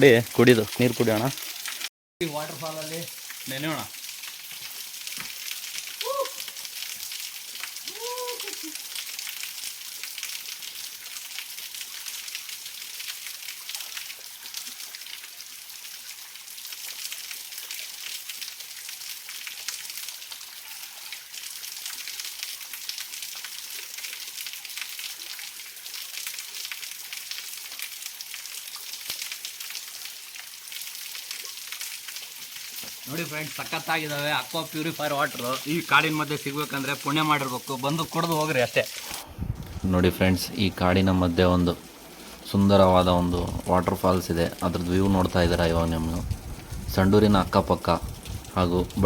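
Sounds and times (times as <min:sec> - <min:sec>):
small waterfall splashing: 0:00.0 - 0:49.0.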